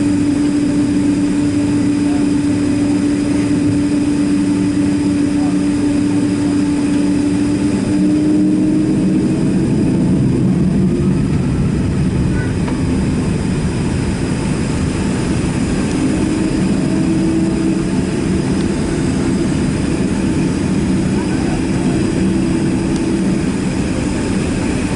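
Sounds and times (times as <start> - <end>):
jet engine drone in cabin: 0.0 - 24.9.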